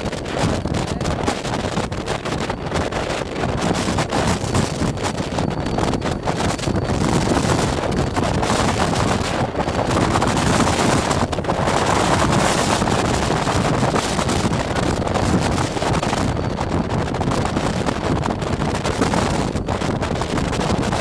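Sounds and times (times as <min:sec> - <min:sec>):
gale buffeting microphone: 0:00.0 - 0:21.0.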